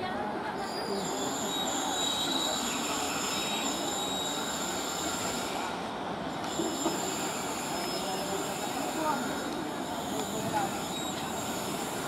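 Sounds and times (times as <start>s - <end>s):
train wheels squealing: 0.4s - 12.0s.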